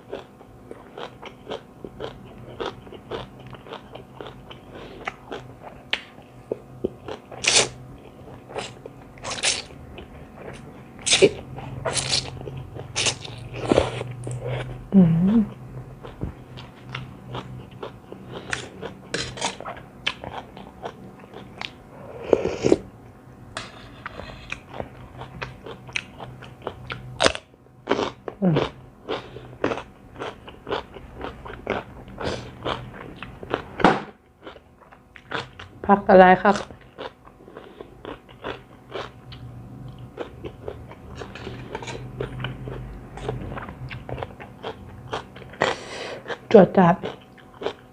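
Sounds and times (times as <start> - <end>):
crunching and chewing food: 0.0 - 47.9.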